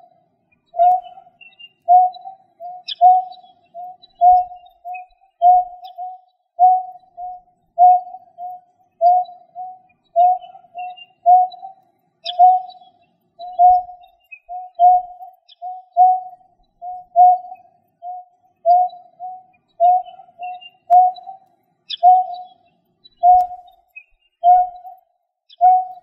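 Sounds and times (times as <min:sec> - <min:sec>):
faint high chirps: 0:00.0 - 0:26.0.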